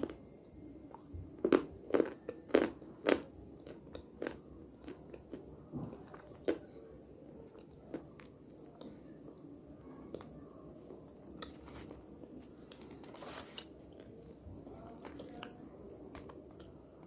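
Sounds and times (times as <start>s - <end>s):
quiet chewing: 0.9s - 17.0s.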